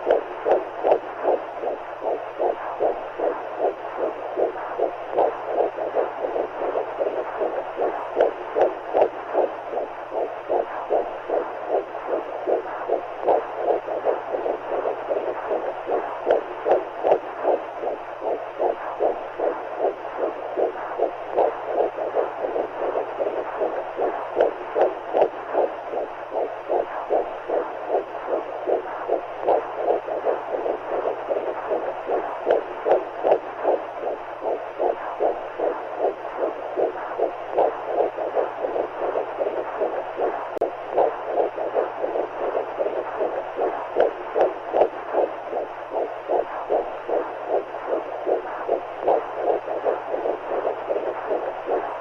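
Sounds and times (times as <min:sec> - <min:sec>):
faint low hum: 0:00.0 - 0:52.0
heartbeat whooshing pulses: 0:00.0 - 0:52.0.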